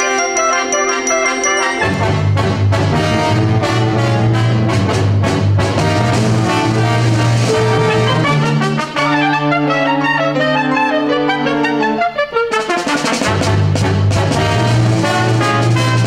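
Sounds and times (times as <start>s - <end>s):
brass music: 0.0s - 16.0s.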